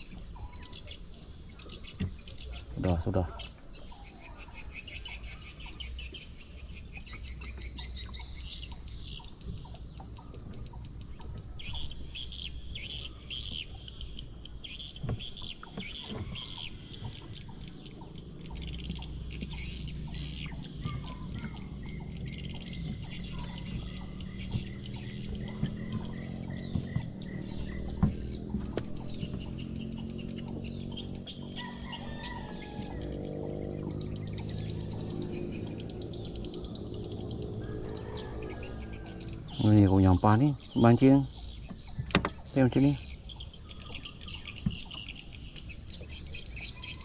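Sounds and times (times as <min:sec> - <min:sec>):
birds chirping: 0:00.0 - 0:47.0
low steady rumble: 0:00.0 - 0:47.0.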